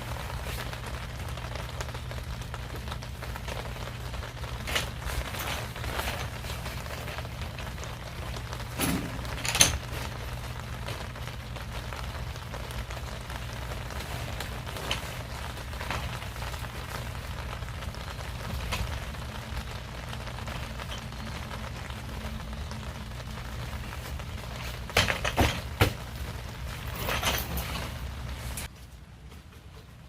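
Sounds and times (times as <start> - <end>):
rain falling: 0.0 - 28.7.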